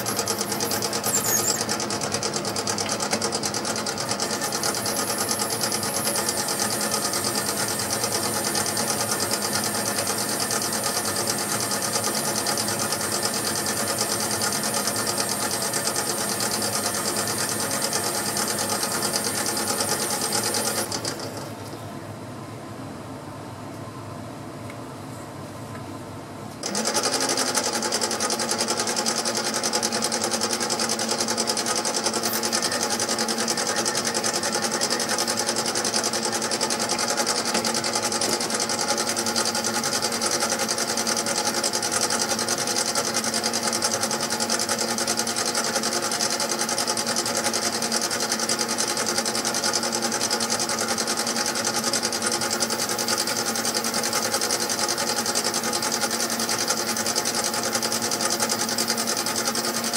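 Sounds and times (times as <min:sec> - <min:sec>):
mini lathe motor whine: 0:00.0 - 0:21.5, 0:26.6 - 0:59.9.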